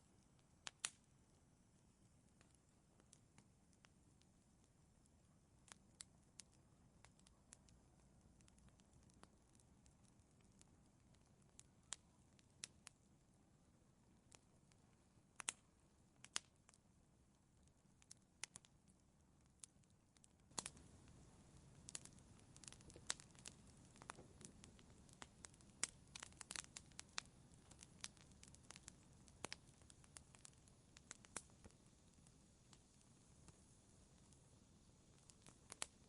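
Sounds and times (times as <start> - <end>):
low hiss of fire: 0.0 - 36.0
wood fire crackling and popping: 0.0 - 36.0.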